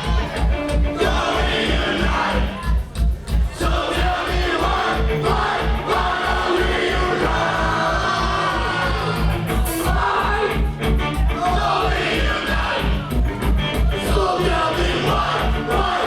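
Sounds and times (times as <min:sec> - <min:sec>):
fast kick drum beat: 0:00.0 - 0:16.0
punk band playing live: 0:00.0 - 0:16.0.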